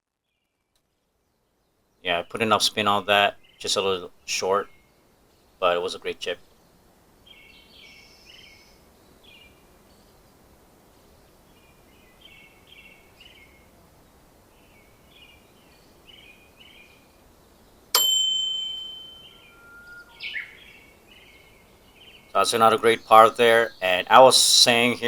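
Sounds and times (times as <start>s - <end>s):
outdoor background noise: 0.0s - 25.0s
songbirds chirping: 0.2s - 18.0s, 19.1s - 25.0s.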